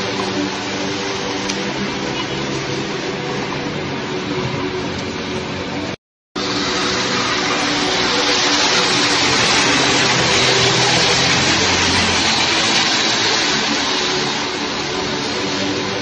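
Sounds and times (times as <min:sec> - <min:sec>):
traffic hiss on wet road: 0:00.0 - 0:16.0.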